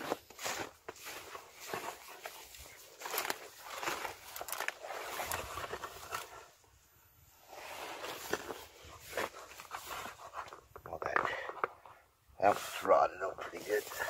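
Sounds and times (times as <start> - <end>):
footsteps through dry grass: 0.0 - 6.6, 7.5 - 11.6, 12.4 - 14.0.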